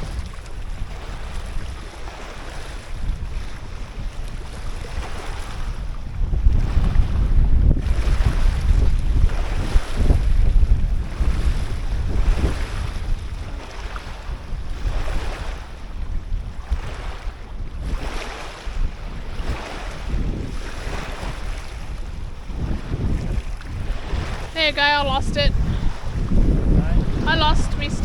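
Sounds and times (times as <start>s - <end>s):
waves washing in: 0.0s - 28.0s
wind buffeting microphone: 0.0s - 28.0s.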